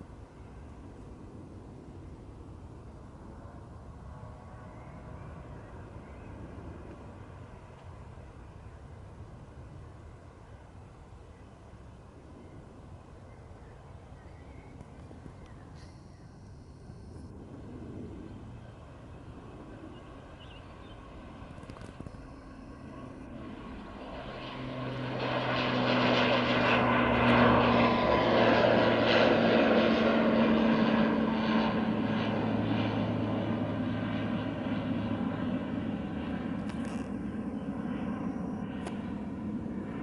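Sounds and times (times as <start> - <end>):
airliner engines passing: 0.0 - 40.0.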